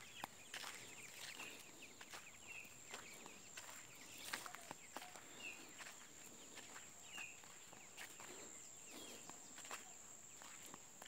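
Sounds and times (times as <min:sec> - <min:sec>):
bird chirps: 0:00.0 - 0:10.9
footsteps crunching dry leaves: 0:00.0 - 0:11.0.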